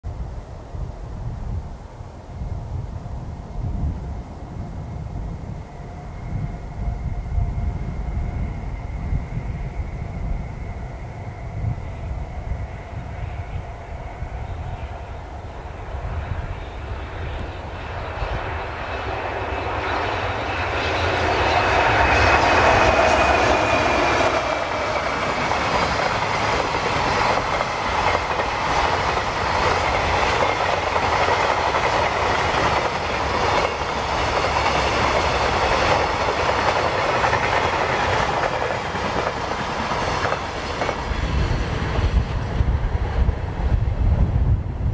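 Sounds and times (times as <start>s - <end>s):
wind buffeting microphone: 0.1s - 44.9s
electric locomotive whine: 0.2s - 44.9s.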